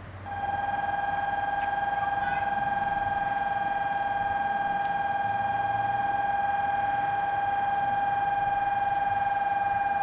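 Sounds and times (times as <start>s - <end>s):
high warbling warning tone: 0.3s - 10.0s.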